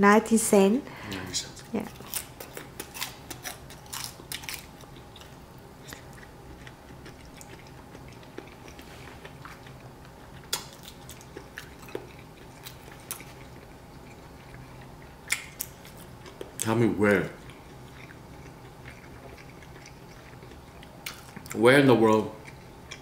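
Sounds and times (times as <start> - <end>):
person chewing: 1.1 - 16.7, 17.3 - 21.6, 22.3 - 23.0.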